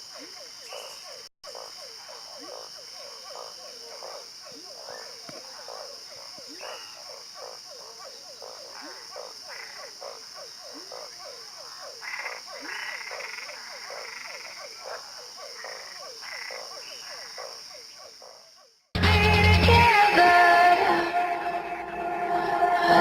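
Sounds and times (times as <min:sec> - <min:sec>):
frogs croaking: 0:00.0 - 0:18.9.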